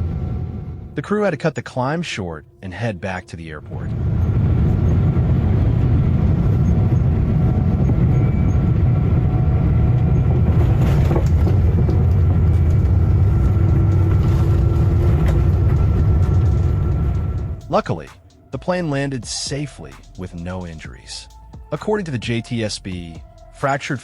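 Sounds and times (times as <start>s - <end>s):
airliner low rumble: 0.0s - 24.0s.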